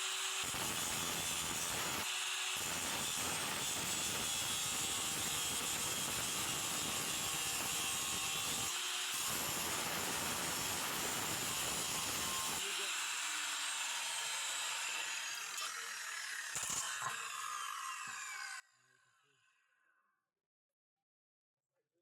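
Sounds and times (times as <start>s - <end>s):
harsh metalworking noise: 0.4s - 18.6s.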